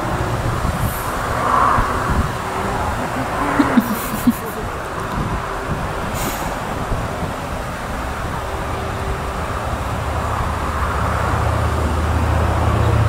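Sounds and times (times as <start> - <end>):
broad rushing noise: 0.0 - 13.0
vehicle engine humming: 0.0 - 13.0.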